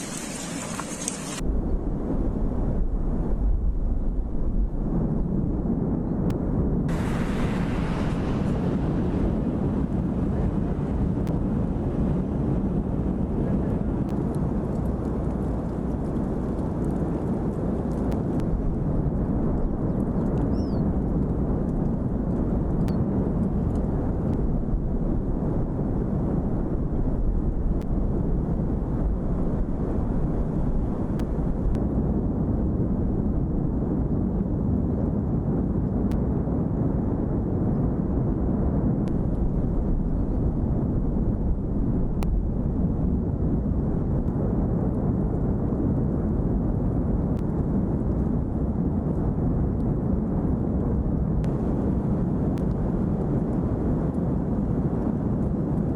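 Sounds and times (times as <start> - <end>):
volcano rumbling roar: 0.0 - 55.9.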